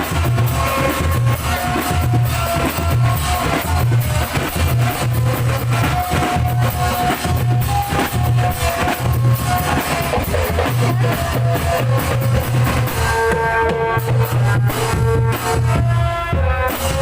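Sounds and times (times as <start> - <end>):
music with steady drum beat: 0.0 - 17.0.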